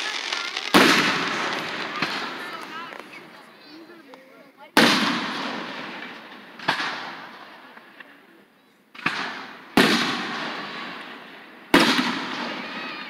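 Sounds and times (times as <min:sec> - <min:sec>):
fireworks booming with echo: 0:00.0 - 0:08.3, 0:08.9 - 0:13.0.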